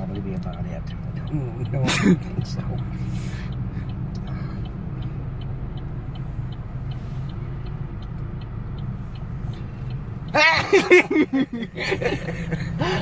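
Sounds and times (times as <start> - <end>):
engine and road rumble: 0.0 - 13.0
turn signal ticking: 0.0 - 13.0.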